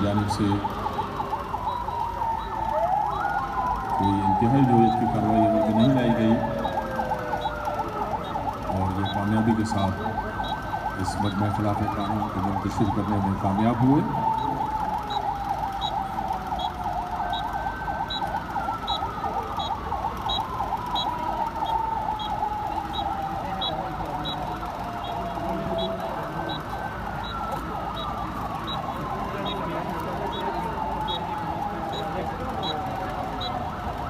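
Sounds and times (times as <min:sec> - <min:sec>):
police siren fast warble: 0:00.0 - 0:34.0
police siren slow wail: 0:00.0 - 0:34.0.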